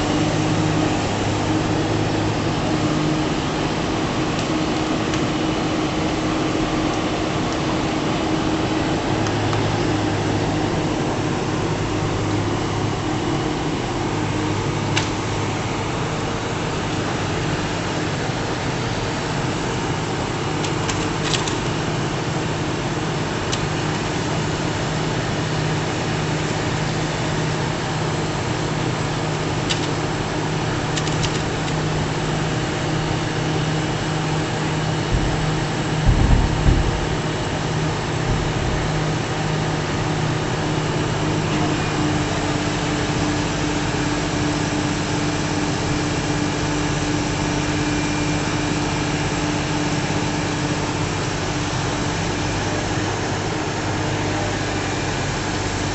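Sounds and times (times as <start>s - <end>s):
engine running with low drone: 0.0s - 55.9s.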